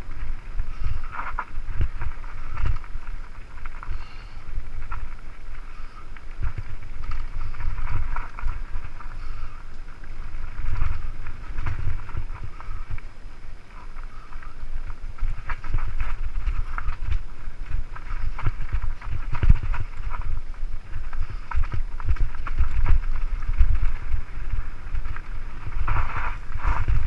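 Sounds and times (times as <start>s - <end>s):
bike rattling: 0.0s - 27.0s
tyres crunching over gravel: 0.0s - 27.0s
wind rumble on microphone: 0.0s - 27.0s.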